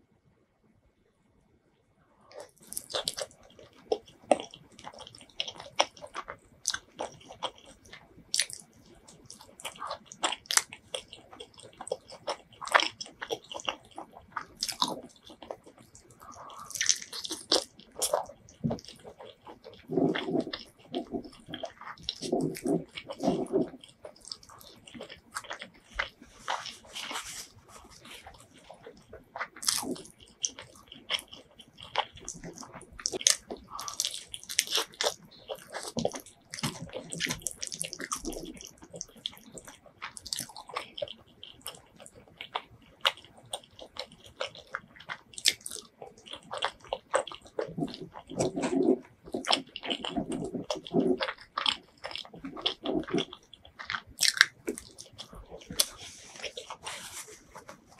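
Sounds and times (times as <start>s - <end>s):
wet chewing: 2.3s - 57.9s.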